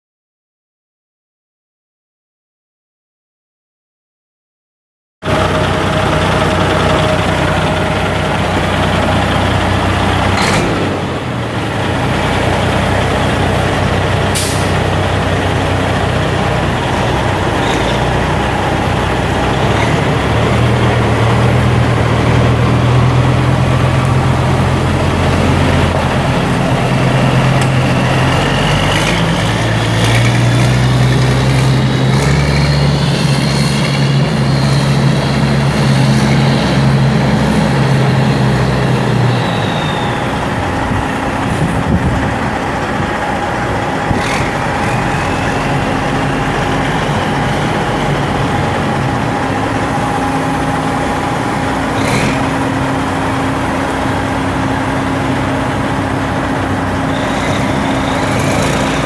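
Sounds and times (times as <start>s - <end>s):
truck diesel engine running: 5.2s - 59.0s.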